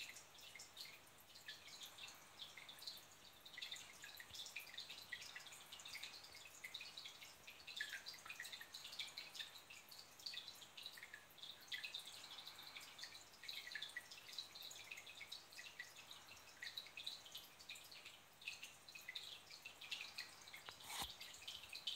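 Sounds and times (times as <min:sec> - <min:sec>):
water trickling and dripping: 0:00.0 - 0:21.9.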